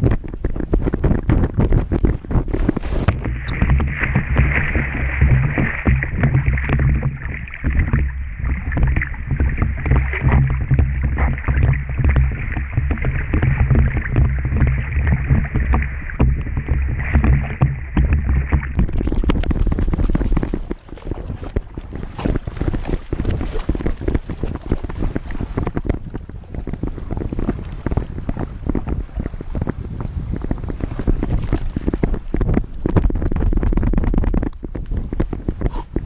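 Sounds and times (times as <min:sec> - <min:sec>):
heavy low rumble: 0:00.0 - 0:36.0
water sloshing and splashing: 0:00.0 - 0:36.0
dog paddling water: 0:00.2 - 0:36.0.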